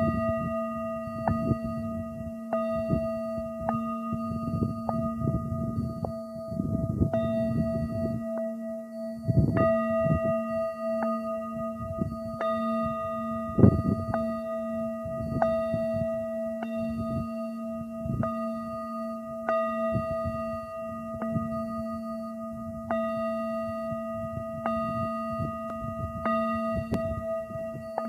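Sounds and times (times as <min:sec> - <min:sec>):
singing bowl ringing: 0:00.0 - 0:28.0.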